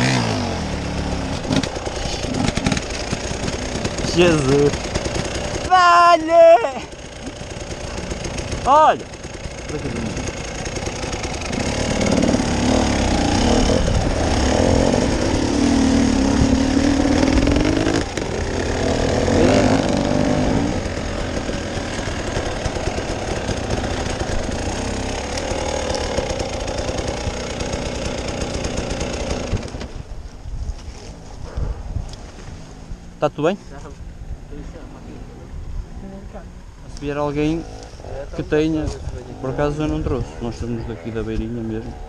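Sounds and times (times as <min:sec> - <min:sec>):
off-road vehicle engine revving: 0:00.0 - 0:29.9, 0:36.9 - 0:42.0.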